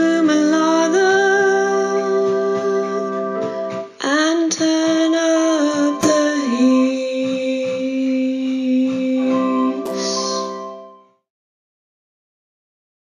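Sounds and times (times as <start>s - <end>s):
instrumental music with held notes: 0.0s - 11.3s.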